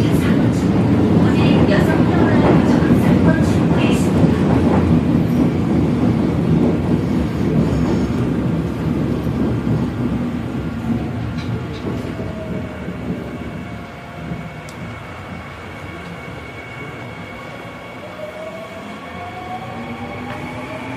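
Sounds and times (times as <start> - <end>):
train carriage rumble: 0.0 - 20.9.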